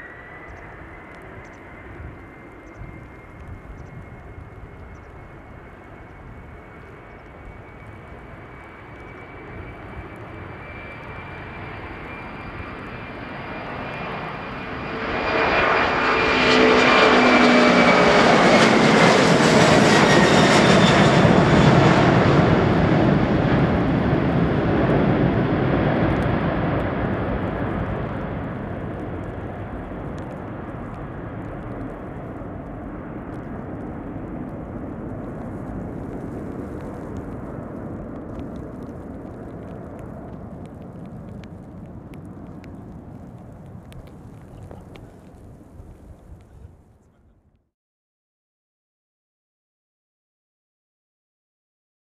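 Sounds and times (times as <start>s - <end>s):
high jet whine: 0.0s - 46.8s
jet engines roaring: 0.0s - 46.8s.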